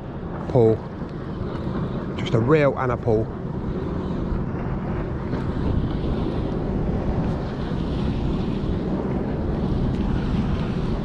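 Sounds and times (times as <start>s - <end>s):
wind buffeting microphone: 0.0s - 11.0s
water lapping: 0.1s - 11.0s.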